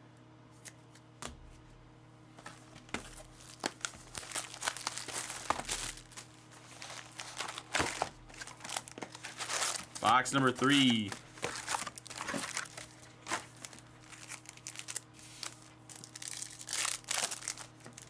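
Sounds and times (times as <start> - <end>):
plastic packaging crinkling and tearing: 2.4 - 18.0.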